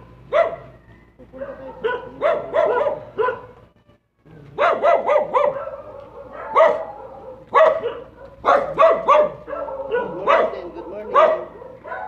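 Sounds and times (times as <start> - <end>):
dog barking: 0.3 - 3.6, 4.6 - 12.0.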